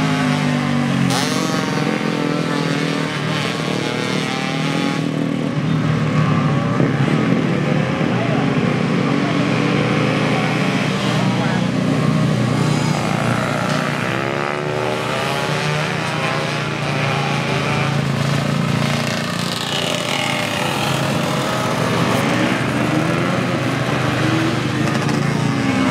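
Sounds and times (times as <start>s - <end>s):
two-stroke motorcycle engines revving: 0.0s - 25.9s.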